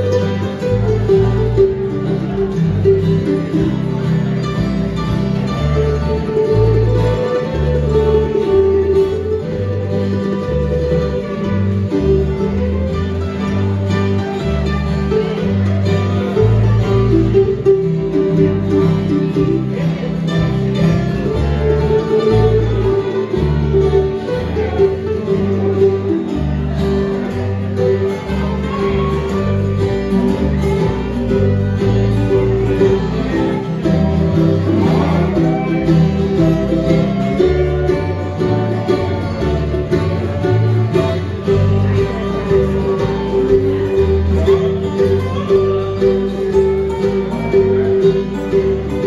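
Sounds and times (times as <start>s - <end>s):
acoustic guitars: 0.0s - 49.0s
low bass notes: 0.0s - 49.0s
mandolin: 0.0s - 49.0s.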